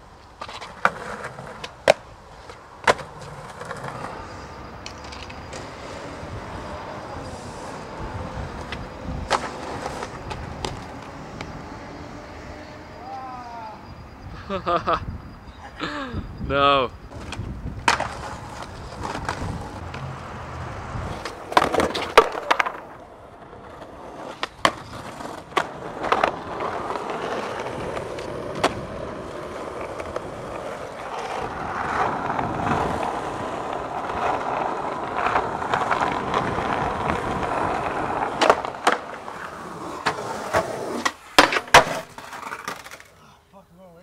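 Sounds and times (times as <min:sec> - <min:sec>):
skateboard wheels rolling on asphalt: 0:00.0 - 0:15.6, 0:16.3 - 0:43.2
skateboard clacking on ground: 0:00.2 - 0:11.6, 0:17.1 - 0:43.2.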